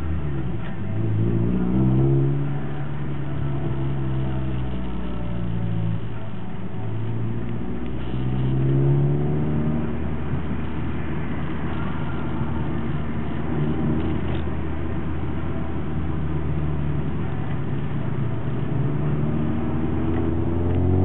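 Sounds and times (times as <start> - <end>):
car engine accelerating: 0.0 - 21.0
road and tyre noise: 0.0 - 21.0.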